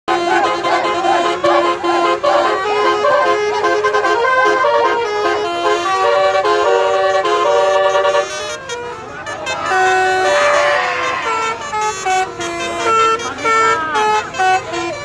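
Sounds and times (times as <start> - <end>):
multi-tone bus horn playing a tune: 0.1 - 15.0.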